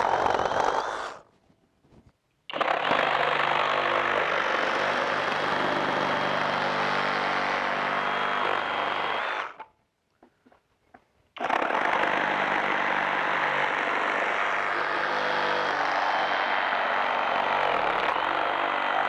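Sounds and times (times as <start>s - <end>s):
reciprocating saw cutting wood: 0.0s - 1.3s, 2.5s - 9.7s, 11.4s - 19.0s.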